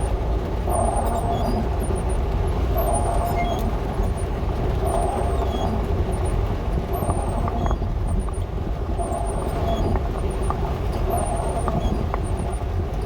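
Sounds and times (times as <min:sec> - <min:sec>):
van engine and road rumble: 0:00.0 - 0:13.0.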